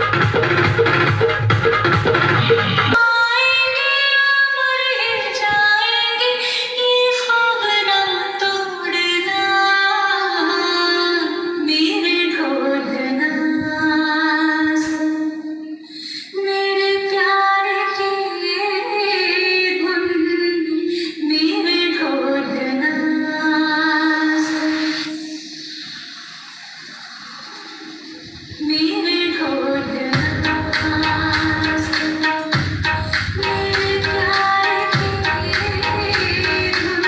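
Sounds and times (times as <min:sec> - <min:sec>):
song with female vocal over speakers: 0:02.2 - 0:37.0.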